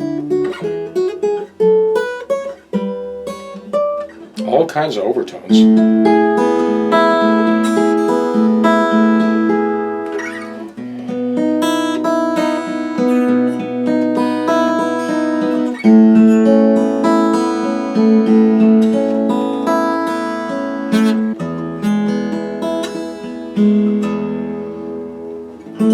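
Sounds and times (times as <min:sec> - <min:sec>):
acoustic guitar strummed and picked: 0:00.0 - 0:25.9.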